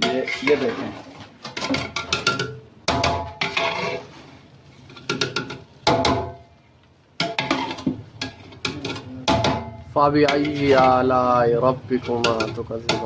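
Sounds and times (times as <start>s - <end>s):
metal ladle clanking on pot: 0.0s - 4.1s, 4.9s - 6.5s, 7.2s - 11.1s, 12.0s - 13.0s.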